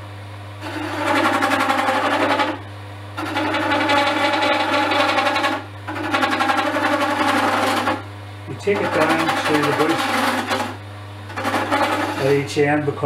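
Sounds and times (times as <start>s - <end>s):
tool rasping on spinning wood: 0.6s - 2.6s, 3.2s - 12.7s
wood lathe humming: 0.6s - 2.6s, 3.2s - 12.6s.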